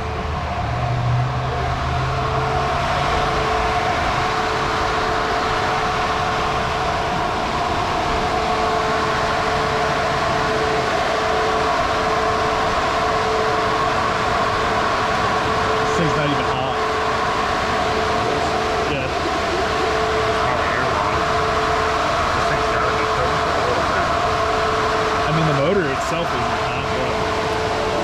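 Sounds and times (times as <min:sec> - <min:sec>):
low hum: 0:00.0 - 0:28.0
mechanical whirring hum: 0:00.0 - 0:28.0.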